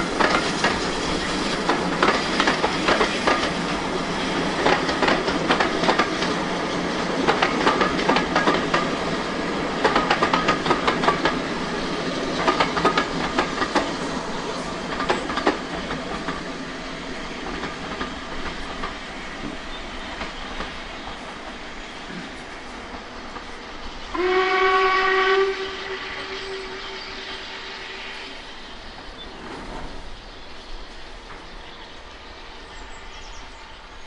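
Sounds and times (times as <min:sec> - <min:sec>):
train wheels clicking over rail joints: 0:00.0 - 0:24.3, 0:28.7 - 0:31.8
steady train rumble: 0:00.0 - 0:34.0.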